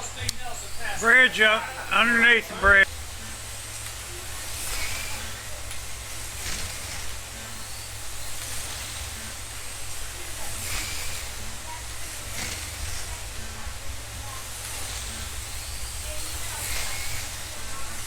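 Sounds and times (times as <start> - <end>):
slot cars motors hissing: 0.0 - 18.0.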